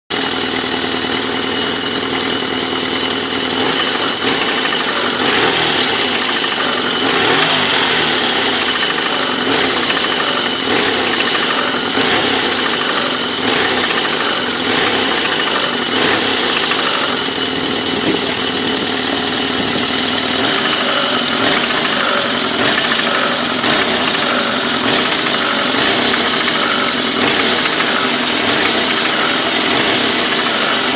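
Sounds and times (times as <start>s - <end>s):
car engine running: 0.1s - 30.9s
engine knocking: 0.1s - 30.9s.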